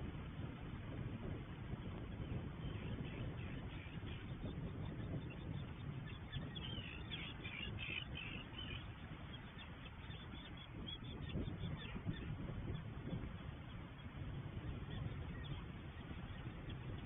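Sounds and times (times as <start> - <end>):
steady low rumble: 0.0 - 17.0
birds calling: 2.5 - 17.0.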